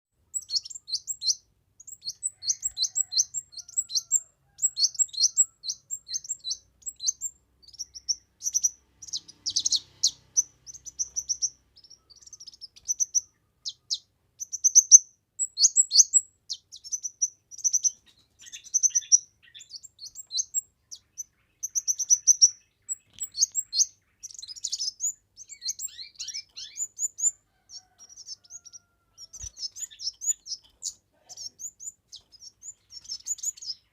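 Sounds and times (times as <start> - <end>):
bird chirping rapidly: 0.2 - 33.9.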